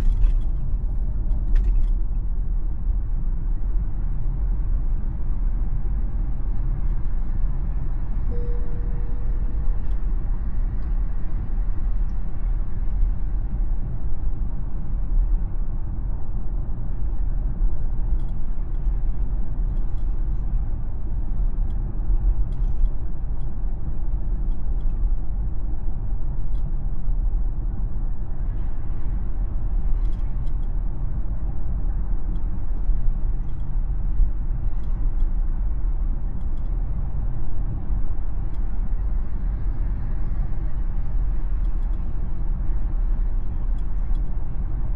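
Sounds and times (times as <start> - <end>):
road and tyre rumble: 0.0 - 44.9.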